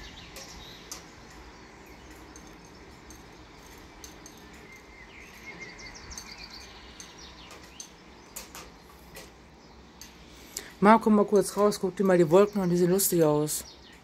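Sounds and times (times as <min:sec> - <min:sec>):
birds chirping faintly: 0:00.0 - 0:14.0
low outdoor background noise: 0:00.0 - 0:14.0.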